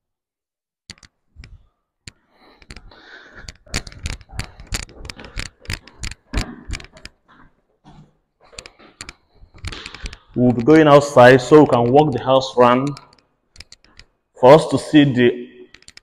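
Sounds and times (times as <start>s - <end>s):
footsteps going down stairs: 1.1s - 14.2s.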